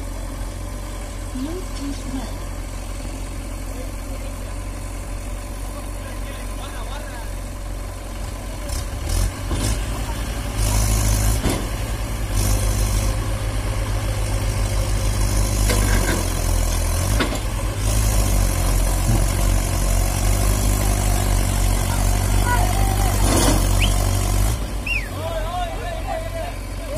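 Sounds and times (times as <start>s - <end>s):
diesel engine revving: 0.0s - 26.9s.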